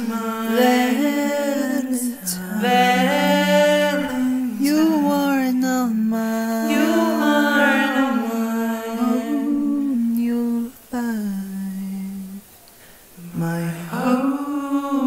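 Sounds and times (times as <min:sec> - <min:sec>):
person singing wordless melody: 0:00.0 - 0:12.6, 0:13.2 - 0:15.0.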